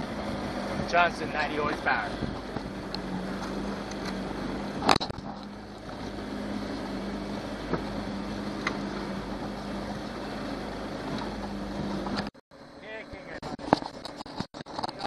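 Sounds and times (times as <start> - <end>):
water rushing: 0.0 - 12.3
outboard motor running: 0.0 - 15.0
wind: 0.0 - 15.0.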